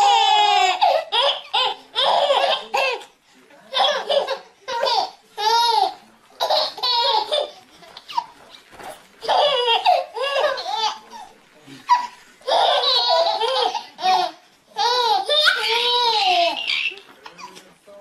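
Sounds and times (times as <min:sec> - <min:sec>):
babies laughing: 0:00.0 - 0:17.8.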